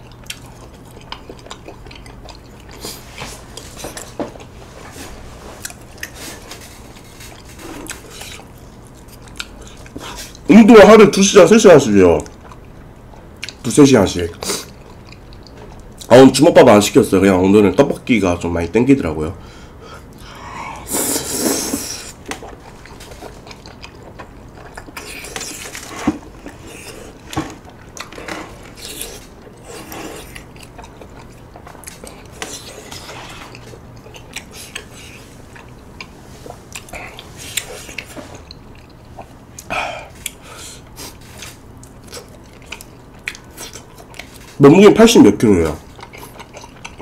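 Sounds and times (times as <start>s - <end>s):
wet chewing mouth sounds: 0.0s - 10.5s, 12.2s - 13.6s, 14.3s - 16.1s, 20.9s - 44.5s, 45.8s - 47.0s.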